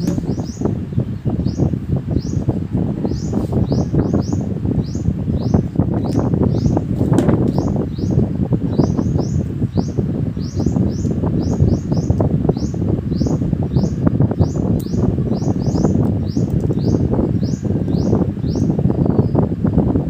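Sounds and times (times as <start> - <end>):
small bird chirping: 0.0 - 19.5
dense crackling rumble: 0.0 - 20.0.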